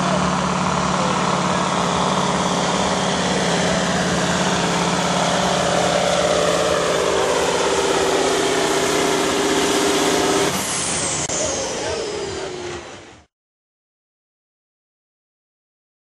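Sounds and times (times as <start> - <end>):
diesel truck engine under load: 0.0 - 13.3.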